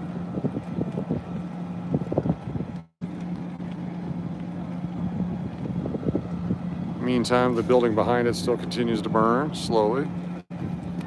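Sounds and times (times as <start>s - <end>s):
low mechanical drone: 0.0s - 11.0s
wind rumbling on microphone: 0.0s - 11.0s.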